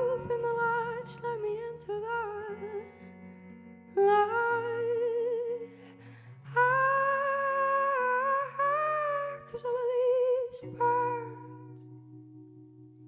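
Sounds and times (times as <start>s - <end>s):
woman singing wordless notes: 0.0s - 3.2s, 3.9s - 11.8s
electric guitar chords: 0.0s - 13.0s.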